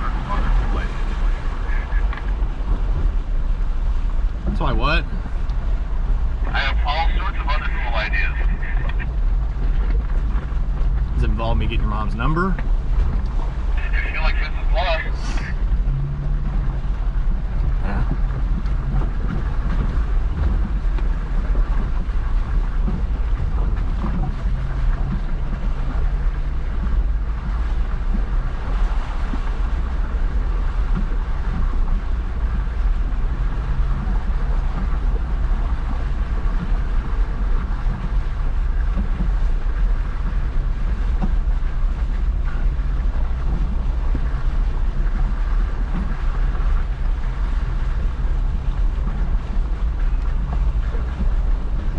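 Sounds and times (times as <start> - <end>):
wind on microphone: 0.0 - 11.2, 12.5 - 51.9
engine low rumble: 0.0 - 51.9.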